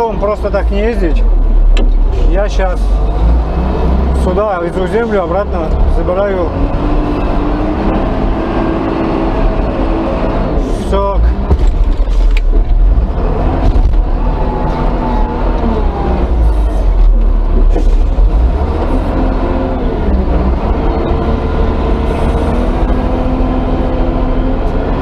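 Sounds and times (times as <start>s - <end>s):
diesel engine low rumble: 0.0s - 25.0s.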